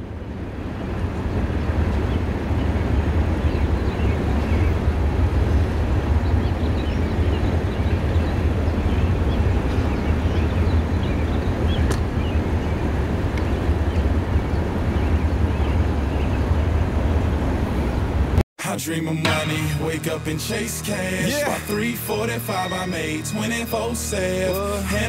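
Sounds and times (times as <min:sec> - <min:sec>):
low outdoor rumble: 0:00.0 - 0:18.4, 0:19.3 - 0:25.0.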